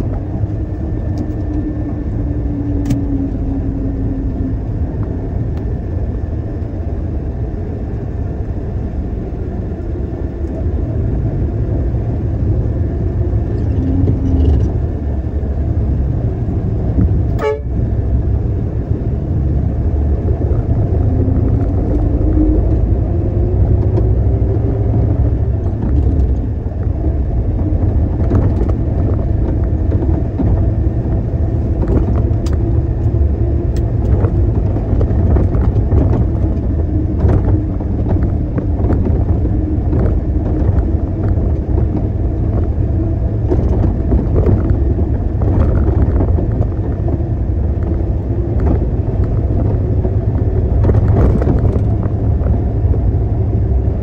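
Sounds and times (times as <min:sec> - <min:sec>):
diesel engine low rumble: 0:00.0 - 0:54.0.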